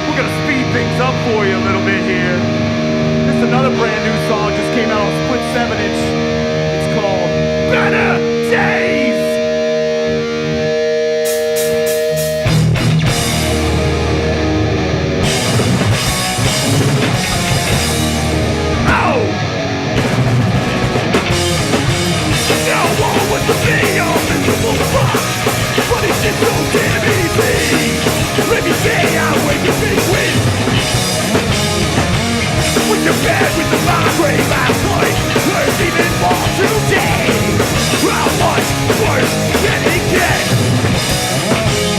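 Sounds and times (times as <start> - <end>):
guitar ringing held notes: 0.0 - 41.9
punk band playing: 0.0 - 41.9.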